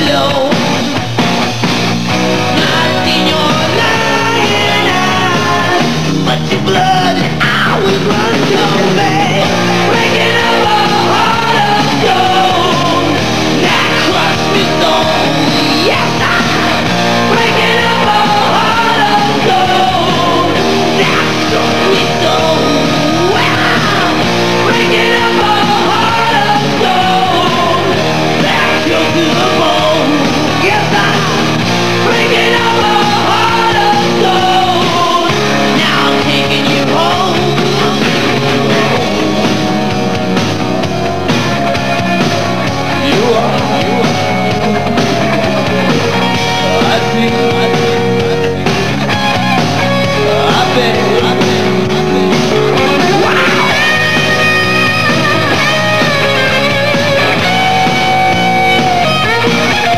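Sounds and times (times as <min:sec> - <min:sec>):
man singing hard rock: 0:00.0 - 0:59.9
rock band with drums: 0:00.0 - 0:59.9.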